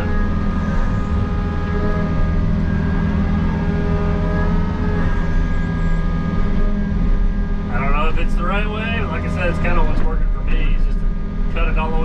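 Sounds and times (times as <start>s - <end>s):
excavator diesel engine: 0.0s - 12.0s.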